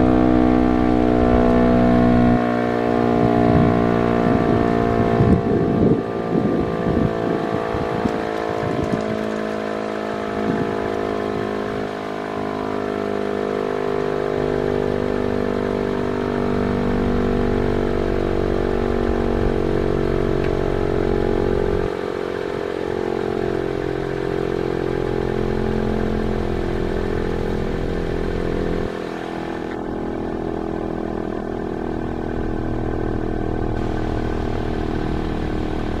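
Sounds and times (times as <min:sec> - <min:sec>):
siren steady tone: 0:00.0 - 0:36.0.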